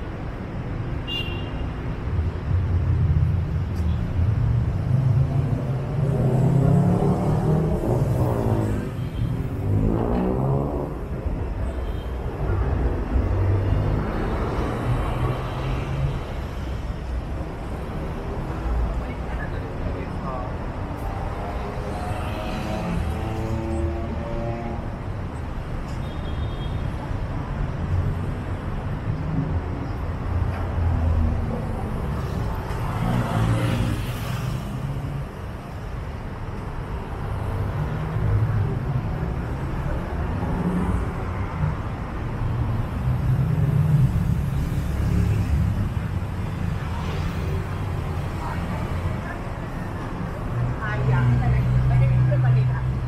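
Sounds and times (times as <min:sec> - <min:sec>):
road traffic rumbling: 0:00.0 - 0:53.0.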